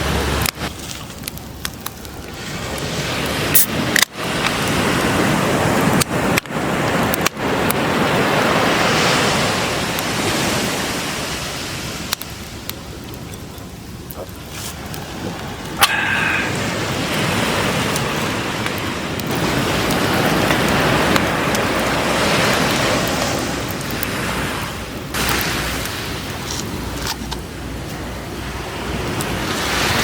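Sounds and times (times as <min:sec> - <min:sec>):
sharp pops and crackles: 0:00.0 - 0:08.8, 0:09.4 - 0:28.0.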